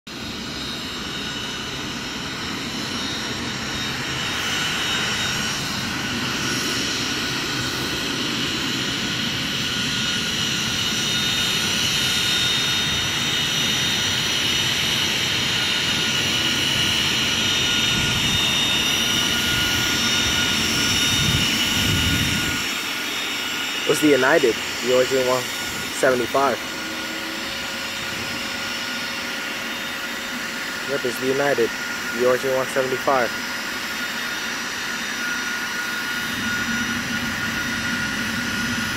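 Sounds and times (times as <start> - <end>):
jet engines roaring with fan whine: 0.1 - 38.9.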